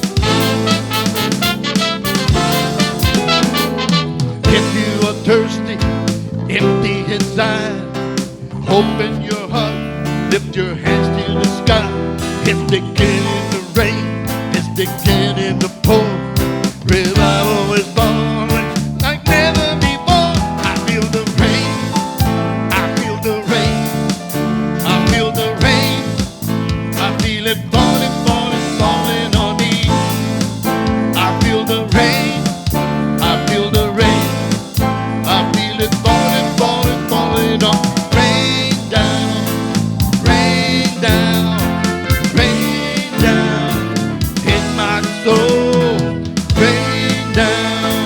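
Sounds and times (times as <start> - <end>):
drum kit: 0.0 - 6.4, 7.2 - 8.5, 11.4 - 48.0
guitar: 0.0 - 48.0
worship band music: 0.0 - 48.0.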